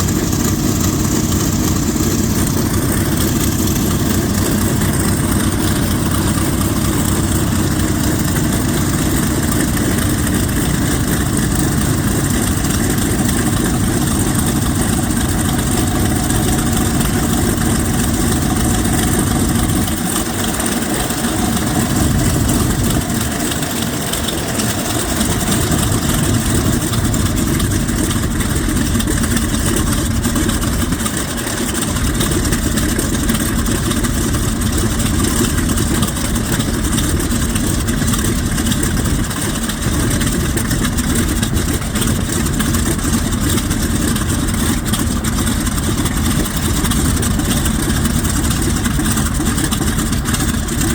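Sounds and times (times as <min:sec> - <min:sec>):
radial aircraft engine running: 0:00.0 - 0:50.9.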